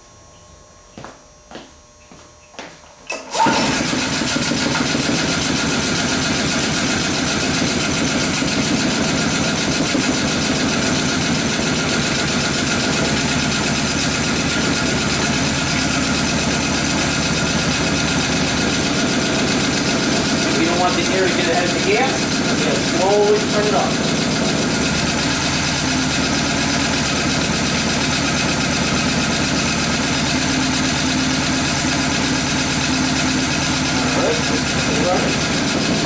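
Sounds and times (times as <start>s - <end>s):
small engine running: 3.1s - 36.0s.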